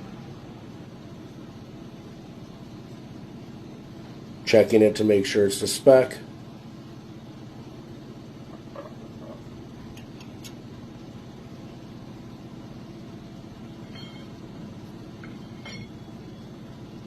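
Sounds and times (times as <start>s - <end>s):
shop machinery humming: 0.0s - 17.0s.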